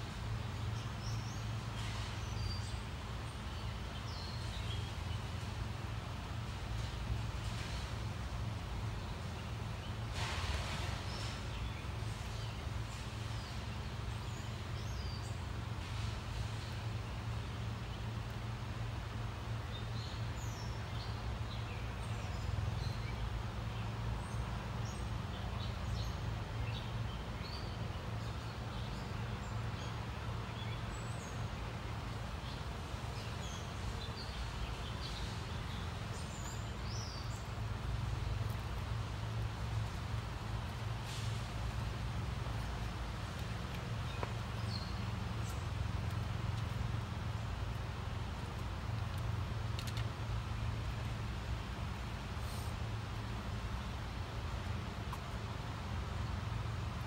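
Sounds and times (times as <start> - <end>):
small birds chirping: 0.1 - 57.0.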